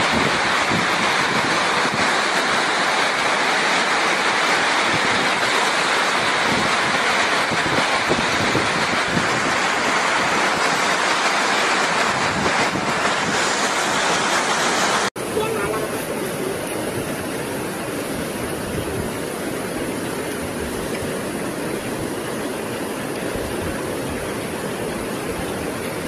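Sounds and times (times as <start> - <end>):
wind buffeting microphone: 0.0 - 2.2, 4.8 - 14.1, 15.4 - 26.0
hurricane wind and driving rain: 0.0 - 26.0.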